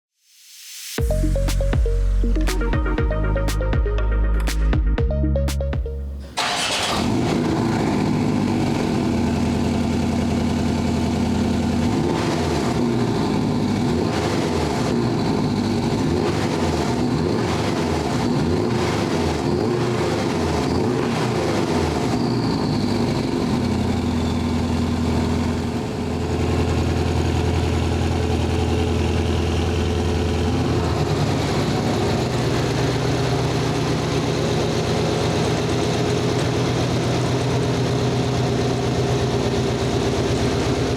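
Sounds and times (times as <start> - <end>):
car engine cold start idling: 6.2 - 40.9.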